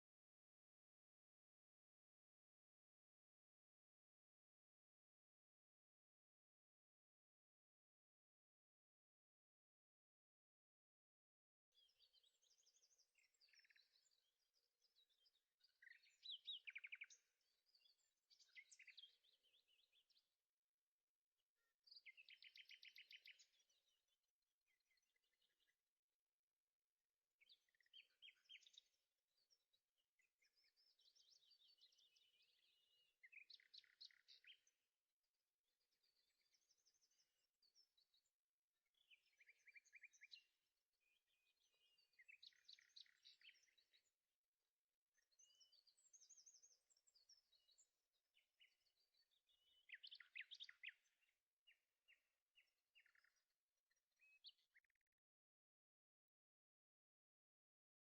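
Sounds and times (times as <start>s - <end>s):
faint birdsong chirps and trills: 0.0s - 58.0s.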